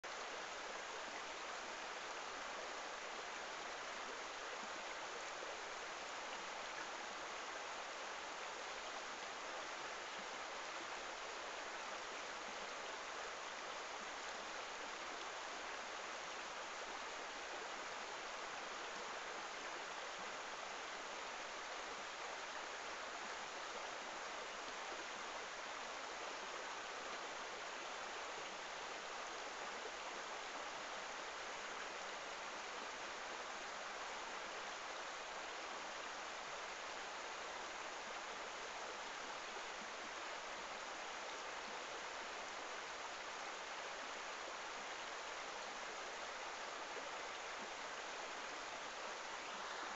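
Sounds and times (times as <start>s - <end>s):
river rushing over stones: 0.0s - 49.9s.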